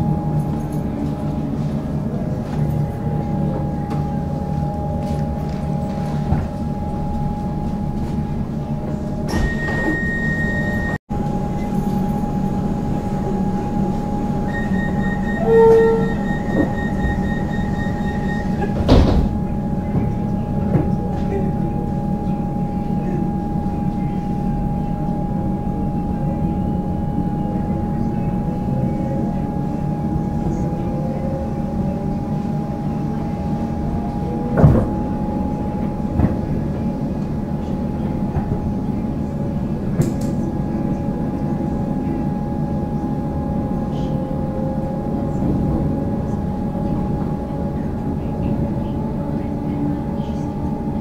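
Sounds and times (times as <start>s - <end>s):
train running rumble: 0.0s - 51.0s.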